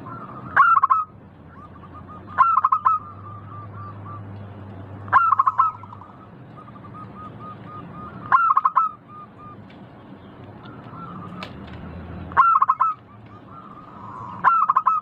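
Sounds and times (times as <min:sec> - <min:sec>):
dove cooing: 0:00.0 - 0:04.4, 0:05.1 - 0:09.6, 0:10.6 - 0:11.6, 0:12.4 - 0:15.0.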